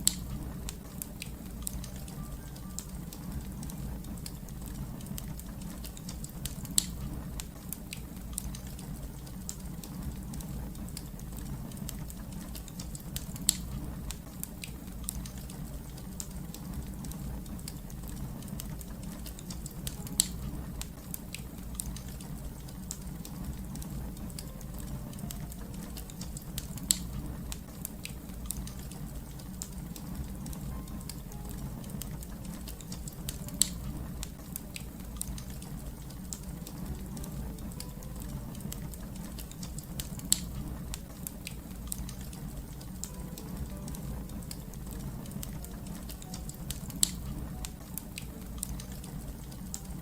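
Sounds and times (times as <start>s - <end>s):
sharp pops from fire: 0.0s - 49.8s
wood fire crackling: 0.0s - 50.0s.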